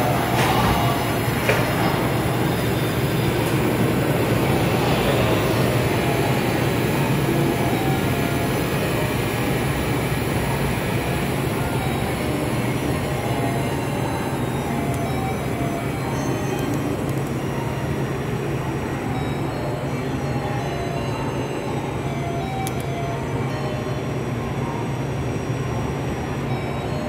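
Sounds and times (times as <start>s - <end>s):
train rushing noise with low hum: 0.0s - 26.8s.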